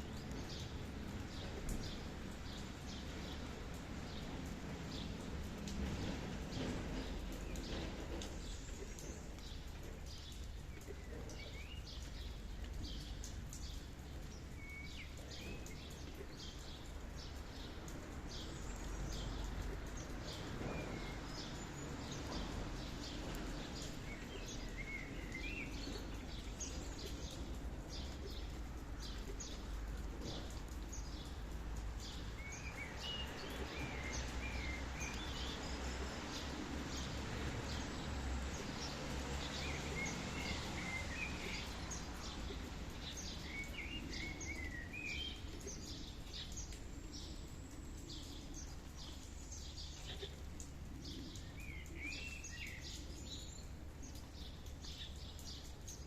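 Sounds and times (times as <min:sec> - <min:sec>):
birds chirping and twittering: 0:00.0 - 0:56.0.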